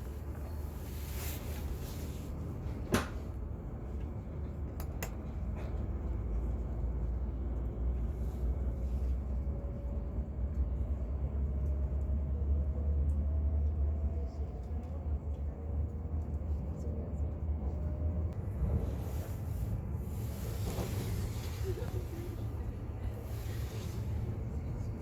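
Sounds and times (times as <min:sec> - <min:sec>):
train low rumble inside carriage: 0:00.0 - 0:25.0.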